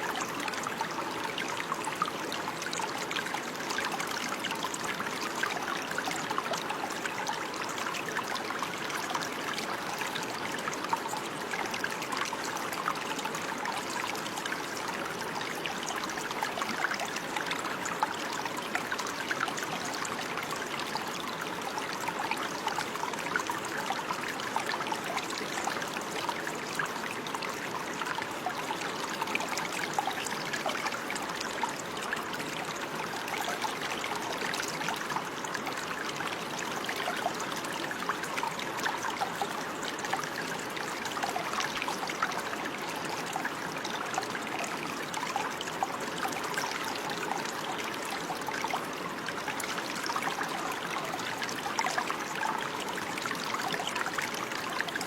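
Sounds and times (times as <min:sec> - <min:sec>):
stream trickling and bubbling: 0:00.0 - 0:55.0.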